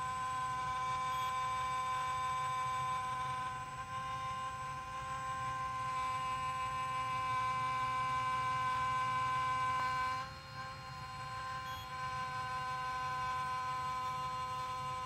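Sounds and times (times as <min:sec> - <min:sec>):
drone camera whining: 0:00.0 - 0:15.0.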